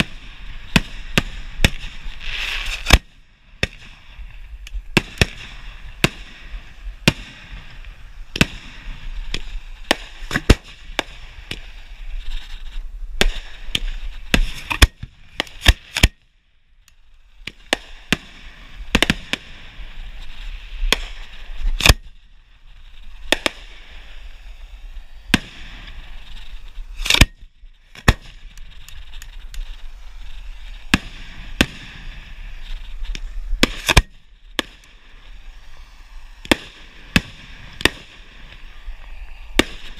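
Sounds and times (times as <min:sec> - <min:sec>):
fireworks shells bursting: 0:00.0 - 0:16.2, 0:16.8 - 0:39.9
fireworks crackling: 0:00.0 - 0:39.9.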